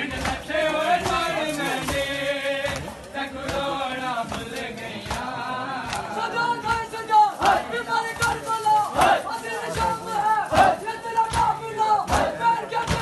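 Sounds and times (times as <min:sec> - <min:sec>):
men chanting a lament: 0:00.0 - 0:13.0
sharp rhythmic beats: 0:00.0 - 0:13.0.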